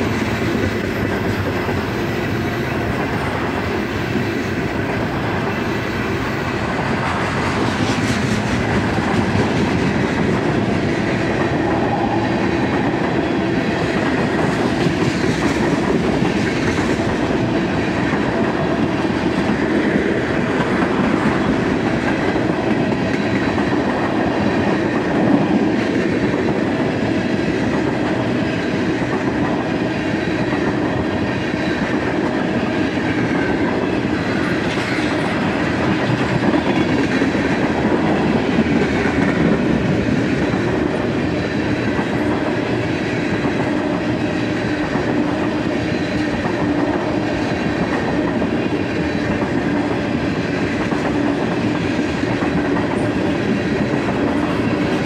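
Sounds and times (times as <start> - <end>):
freight train rolling past: 0.0 - 55.0.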